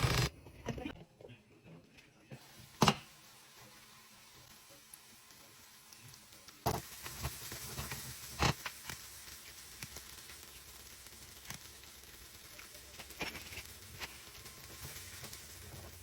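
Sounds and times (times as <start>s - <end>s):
food sizzling in a frying pan: 2.4s - 16.0s.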